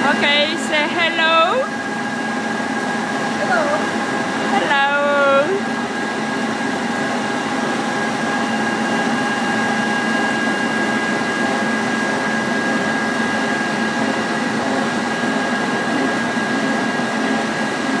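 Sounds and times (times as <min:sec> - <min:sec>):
conveyor machinery drone: 0:00.0 - 0:18.0
high machine whine: 0:00.0 - 0:18.0.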